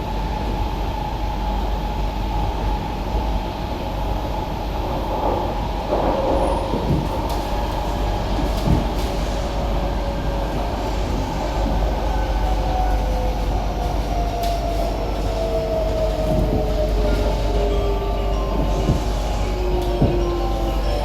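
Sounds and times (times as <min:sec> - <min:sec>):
train wheel and track rumble: 0:00.0 - 0:21.0.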